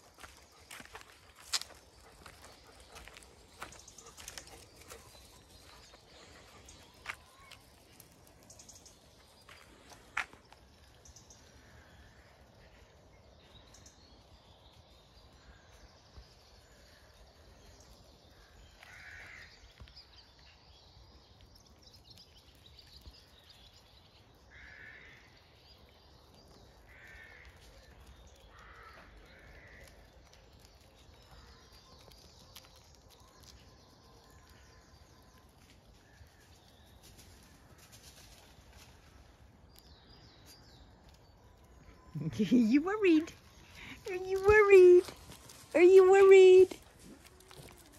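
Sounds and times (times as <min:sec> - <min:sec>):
faint outdoor ambience: 0:00.0 - 0:47.9.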